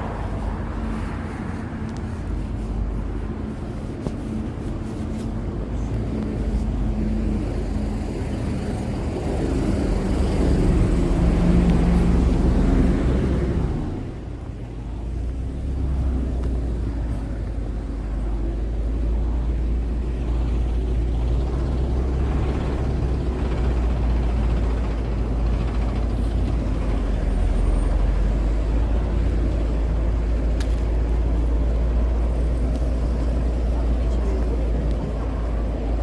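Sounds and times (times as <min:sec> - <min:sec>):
cars passing: 0:00.0 - 0:36.0
road traffic rumble: 0:00.0 - 0:36.0.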